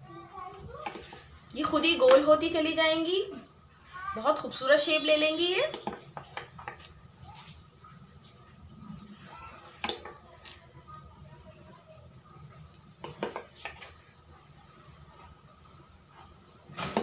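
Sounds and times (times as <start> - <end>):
faint oil sizzle: 0.0 - 17.0.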